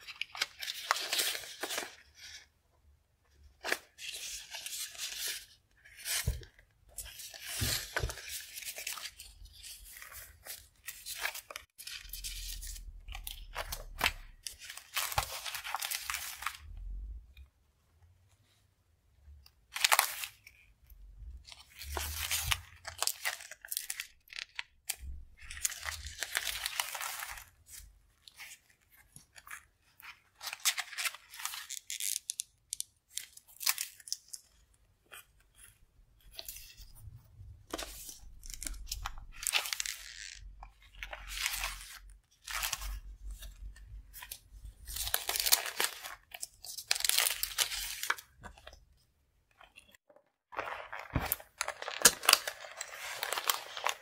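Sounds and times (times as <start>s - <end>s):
plastic sheets and paper rustling: 0.0s - 2.5s, 3.4s - 16.8s, 19.6s - 54.0s.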